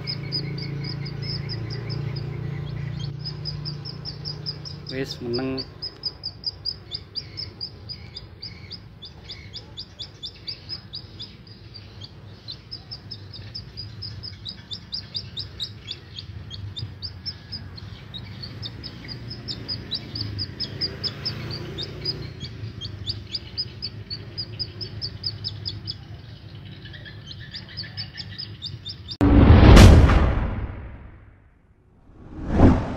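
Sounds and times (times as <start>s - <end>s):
chick peeping: 0.0s - 29.2s.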